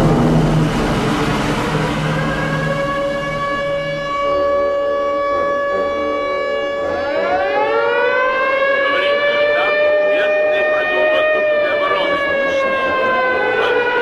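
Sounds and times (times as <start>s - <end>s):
air-raid siren steady pitch: 0.0s - 14.0s
siren winding up: 1.8s - 14.0s.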